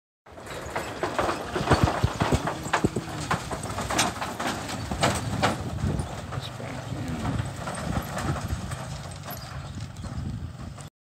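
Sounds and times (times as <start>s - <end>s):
loose wooden boards clattering: 0.3s - 10.9s.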